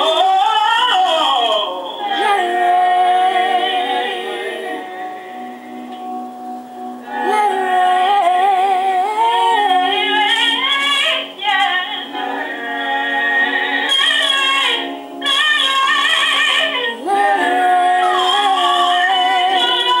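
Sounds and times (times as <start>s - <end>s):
woman singing gospel: 0.0s - 5.2s, 7.0s - 20.0s.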